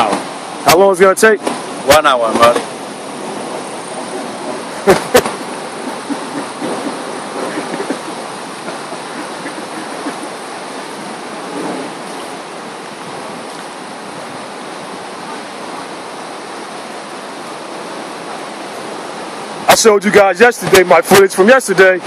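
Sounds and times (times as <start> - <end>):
rushing floodwater: 0.0 - 22.0.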